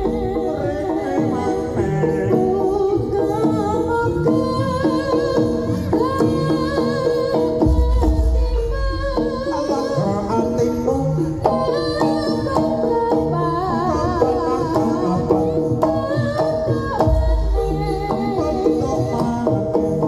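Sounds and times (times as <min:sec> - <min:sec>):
drums and tuned percussion: 0:00.0 - 0:20.0.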